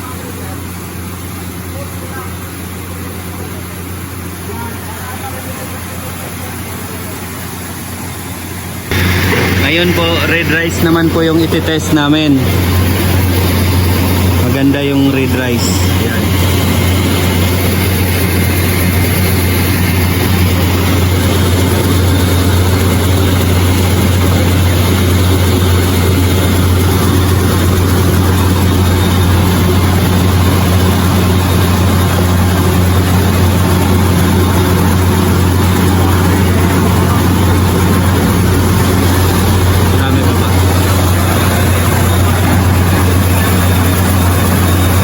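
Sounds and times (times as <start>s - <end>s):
rice mill motor humming: 0.0s - 45.0s
grain rushing through mill: 5.1s - 45.0s.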